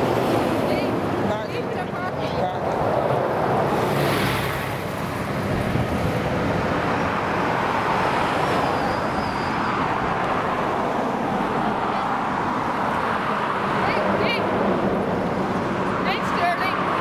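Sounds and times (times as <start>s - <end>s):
vehicles driving past: 0.0s - 17.0s.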